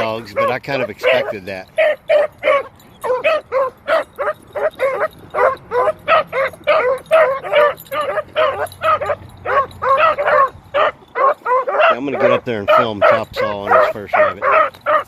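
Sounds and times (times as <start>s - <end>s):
hounds yelping barks: 0.0s - 15.0s.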